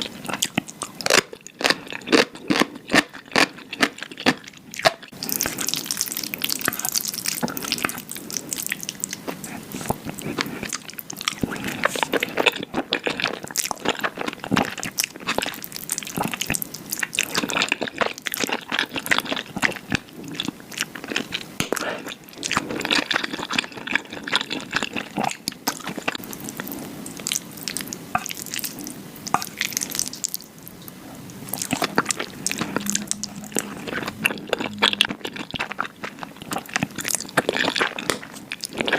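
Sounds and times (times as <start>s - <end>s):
slurping and chewing noodles: 0.0s - 30.4s, 31.0s - 38.9s.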